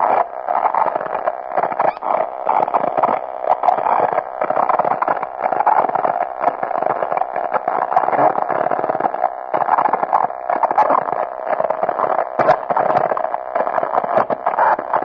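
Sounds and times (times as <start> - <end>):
dense radio-like noise: 0.0 - 15.0.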